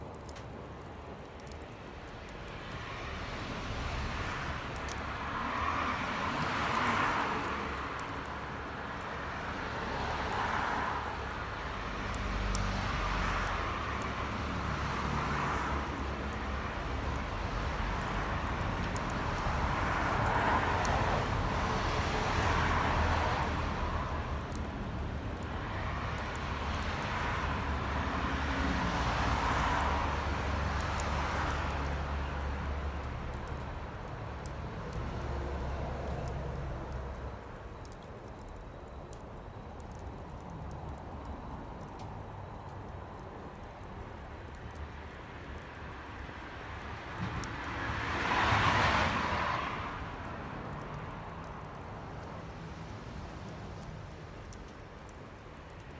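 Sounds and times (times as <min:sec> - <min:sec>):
bonfire crackling and popping: 0:00.0 - 0:55.9.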